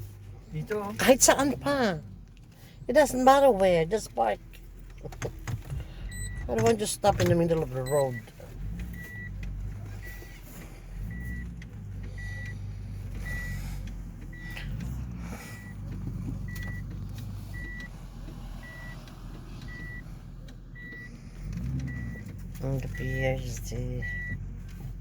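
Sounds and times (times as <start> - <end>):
car engine rumble: 0.0 - 25.0
car warning beeps: 0.0 - 25.0.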